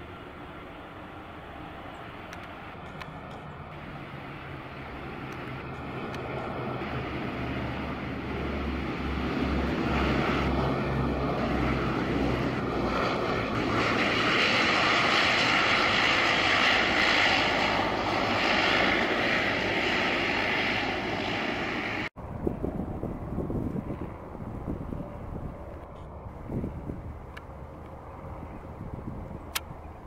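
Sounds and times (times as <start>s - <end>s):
propeller drone: 0.0s - 30.0s.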